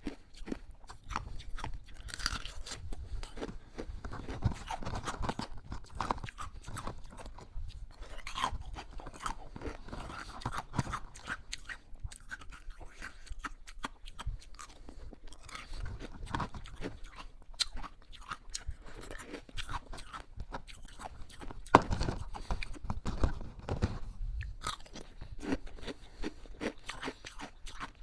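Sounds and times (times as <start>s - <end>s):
ice being chewed: 0.0s - 23.3s, 24.4s - 28.0s.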